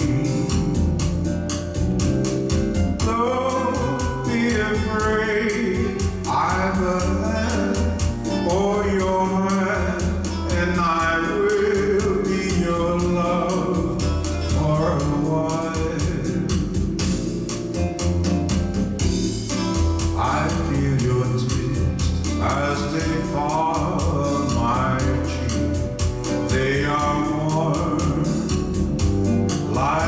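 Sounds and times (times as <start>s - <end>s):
bossa nova keyboard accompaniment: 0.0s - 30.0s.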